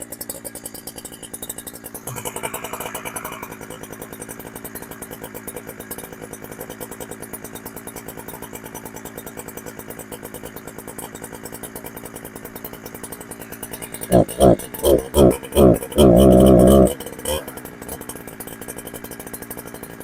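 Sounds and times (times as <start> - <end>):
chainsaw idling: 0.0 - 20.0.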